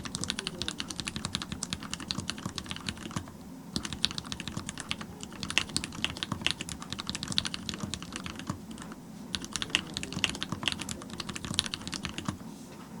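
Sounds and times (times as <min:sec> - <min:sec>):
mechanical keyboard typing: 0:00.0 - 0:12.4.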